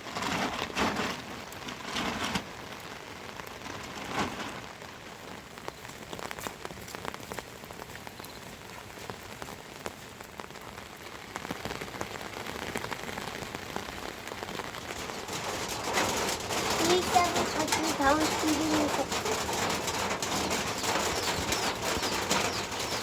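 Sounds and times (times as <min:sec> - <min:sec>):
rain falling: 0:00.0 - 0:23.0
raindrops ticking on surface: 0:00.0 - 0:23.0.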